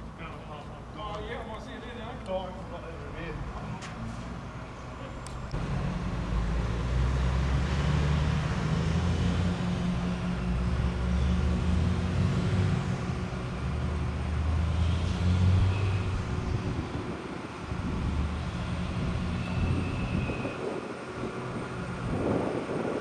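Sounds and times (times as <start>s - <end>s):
diesel truck engine under load: 0.0s - 23.0s.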